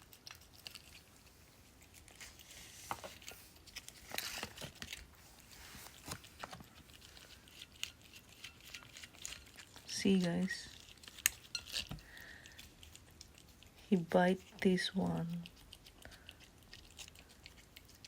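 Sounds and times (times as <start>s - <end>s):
cat licking and chewing: 0.0s - 18.0s.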